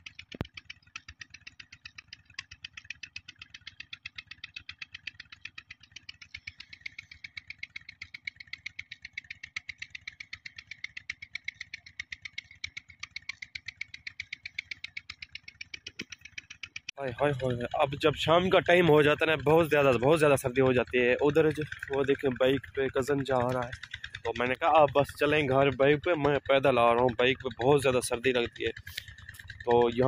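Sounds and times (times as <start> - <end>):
diesel engine running steadily: 0.0 - 30.0.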